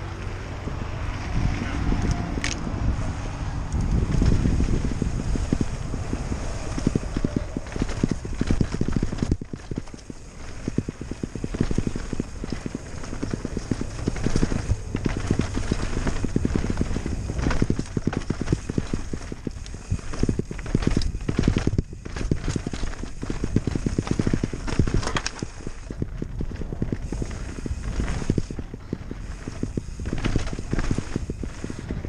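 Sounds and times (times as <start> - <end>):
wind buffeting microphone: 0.0 - 32.0
mountain bike clattering over rocks: 3.9 - 32.0.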